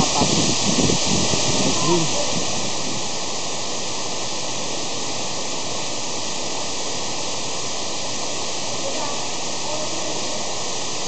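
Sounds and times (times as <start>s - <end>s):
waterfall splashing onto rocks: 0.0s - 11.0s.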